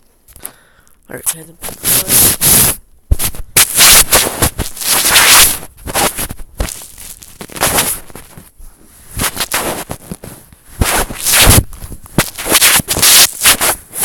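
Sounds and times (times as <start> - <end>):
microphone being handled: 1.5 - 14.0.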